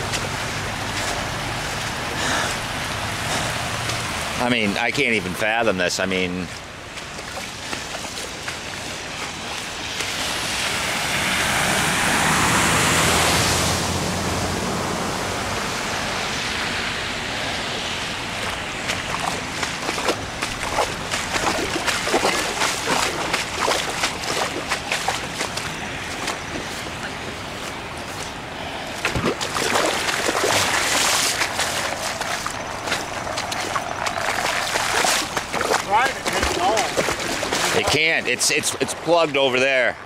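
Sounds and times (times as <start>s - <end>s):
rushing floodwater: 0.0s - 40.0s.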